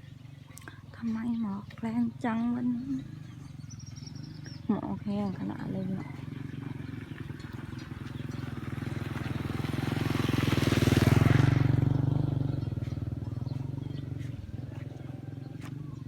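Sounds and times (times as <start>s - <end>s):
low engine drone: 0.0s - 16.0s
motor vehicle passing by: 0.0s - 16.0s.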